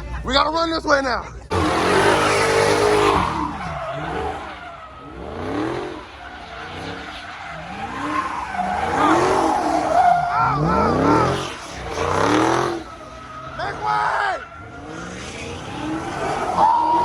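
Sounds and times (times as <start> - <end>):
car engine revving: 1.4 - 17.0
tyres squealing on pavement: 1.5 - 17.0.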